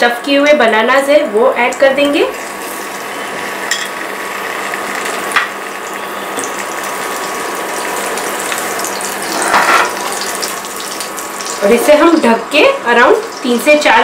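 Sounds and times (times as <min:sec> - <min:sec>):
oil sizzling in a pan: 0:00.6 - 0:14.0.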